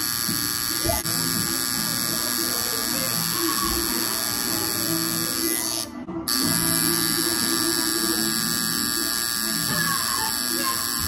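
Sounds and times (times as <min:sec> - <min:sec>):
tattoo machine buzzing: 0:00.0 - 0:11.0.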